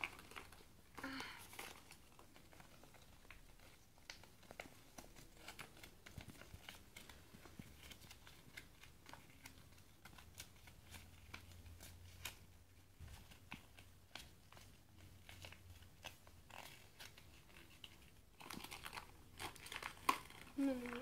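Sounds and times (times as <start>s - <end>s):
paper rustling and crinkling: 0.0s - 21.0s.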